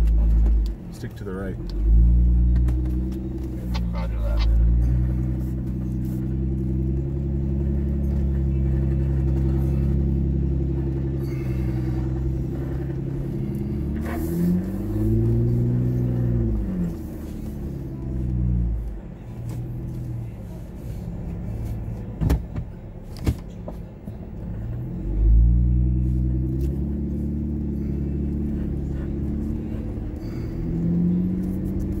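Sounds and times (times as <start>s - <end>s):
vehicle engine revving: 0.0s - 22.2s, 24.4s - 32.0s.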